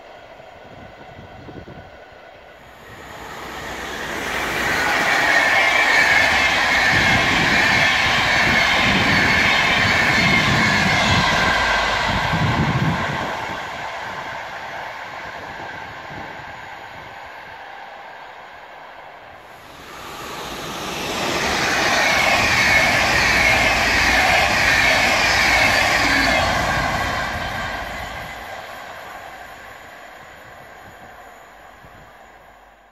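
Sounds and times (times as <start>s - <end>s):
passenger train passing: 0.0s - 32.9s.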